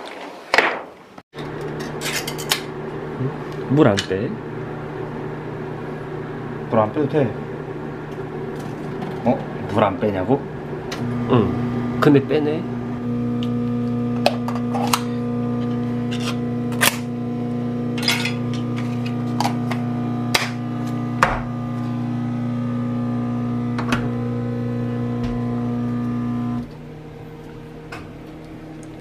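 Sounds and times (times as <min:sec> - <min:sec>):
kitchen appliance humming: 0:01.4 - 0:29.0.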